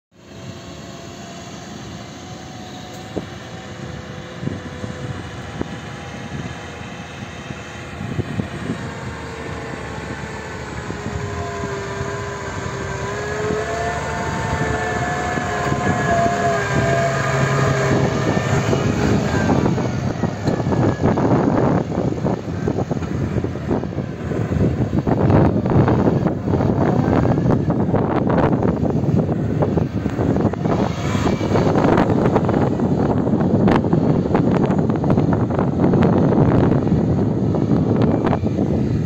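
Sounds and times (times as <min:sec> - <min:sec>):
tractor diesel engine droning: 0:00.2 - 0:39.0.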